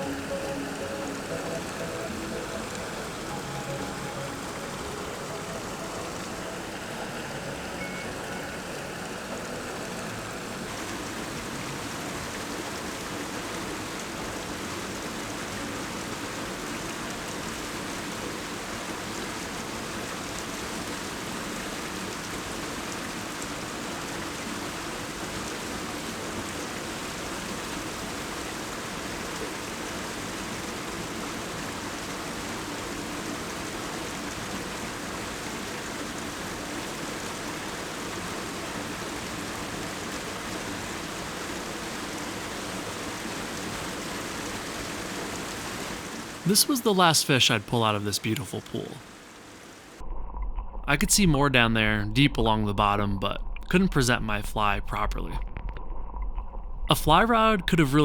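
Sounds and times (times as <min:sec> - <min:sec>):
waterfall pouring into pool: 0:00.0 - 0:47.1.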